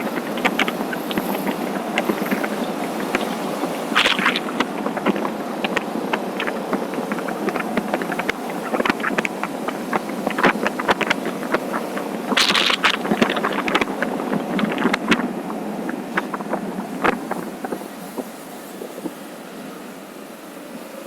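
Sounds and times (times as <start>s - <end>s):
wind buffeting microphone: 0.0s - 19.3s
road noise: 0.0s - 21.0s.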